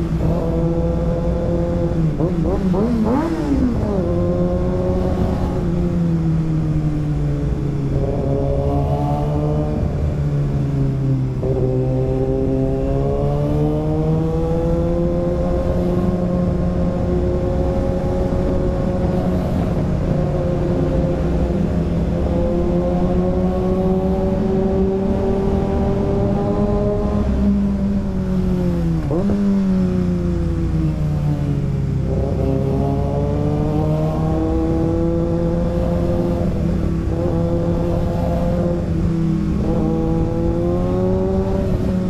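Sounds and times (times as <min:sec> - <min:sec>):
motorcycle engine revving: 0:00.0 - 0:42.0
wind noise: 0:00.0 - 0:42.0.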